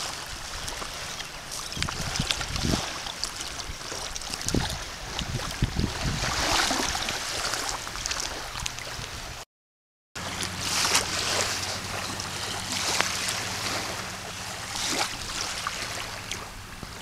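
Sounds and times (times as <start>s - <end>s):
gentle surf: 0.0s - 9.4s, 10.2s - 17.0s
light wind: 0.0s - 9.4s, 10.2s - 17.0s.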